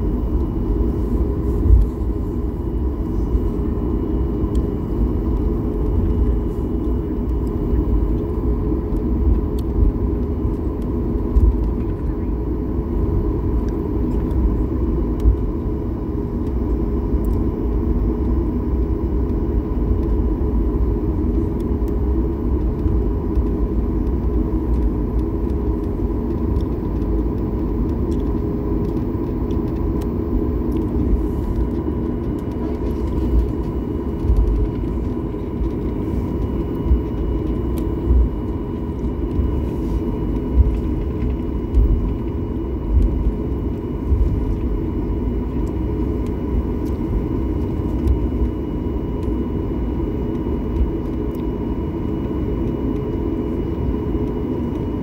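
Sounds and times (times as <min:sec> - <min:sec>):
airliner cabin rumble: 0:00.0 - 0:55.0
jet engine whine: 0:00.0 - 0:55.0.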